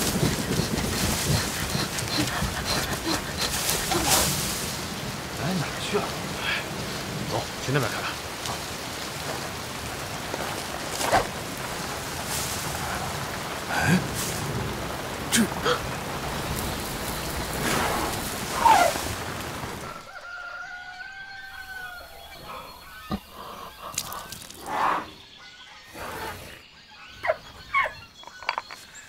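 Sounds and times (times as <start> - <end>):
chickens clucking: 0.0 - 7.5, 8.2 - 29.0
rain falling: 0.0 - 24.7.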